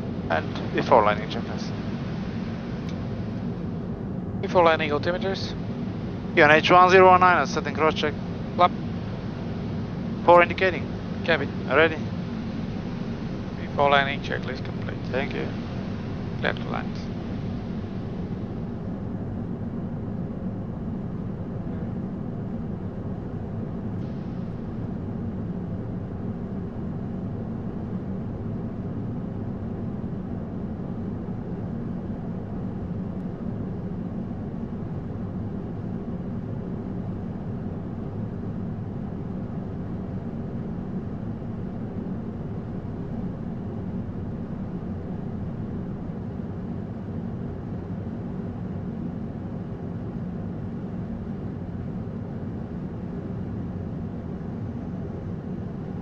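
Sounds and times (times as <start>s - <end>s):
airflow and engine drone: 0.0s - 56.0s.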